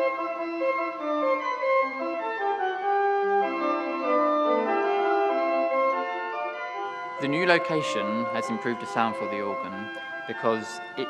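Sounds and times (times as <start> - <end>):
pipe organ playing slow piece: 0.0 - 11.0.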